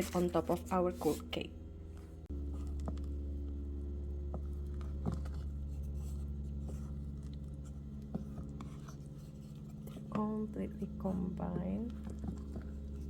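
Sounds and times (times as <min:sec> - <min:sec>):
low electric hum: 0:00.0 - 0:13.0.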